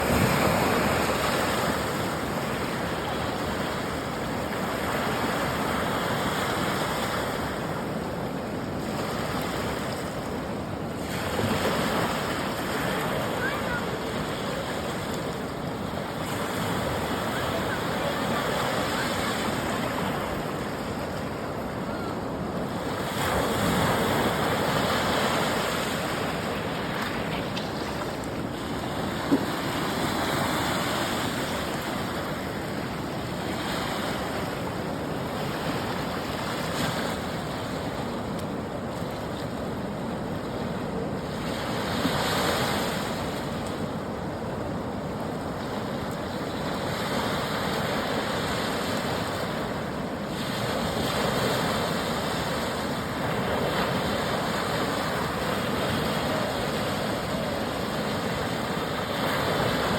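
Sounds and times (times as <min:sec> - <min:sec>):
river water rushing: 0:00.0 - 0:40.4, 0:41.0 - 0:59.9.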